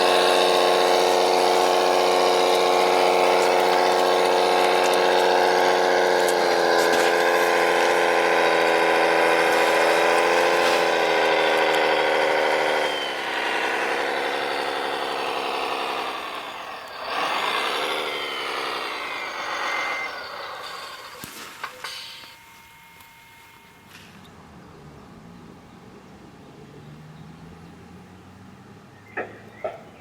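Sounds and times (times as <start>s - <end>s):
high-pitched motor whine: 0.0s - 30.0s.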